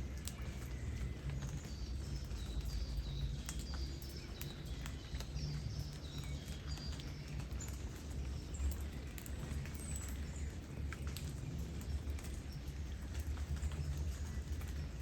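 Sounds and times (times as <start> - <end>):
light rain falling: 0.0 - 15.0
raindrops ticking: 0.0 - 15.0.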